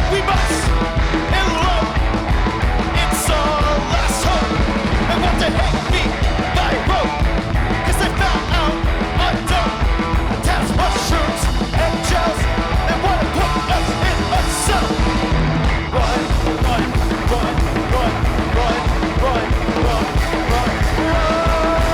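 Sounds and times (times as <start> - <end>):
drums with cymbal crashes: 0.0 - 21.9
electric guitar: 0.0 - 21.9
person singing and yelling: 0.0 - 21.9.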